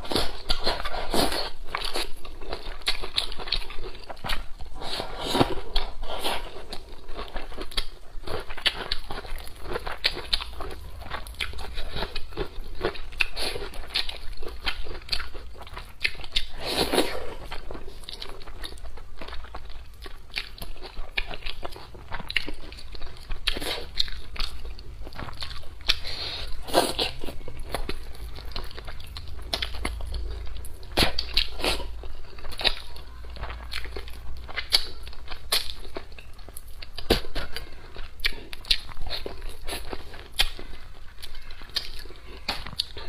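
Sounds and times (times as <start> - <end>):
person chewing and crunching: 0.0 - 43.0.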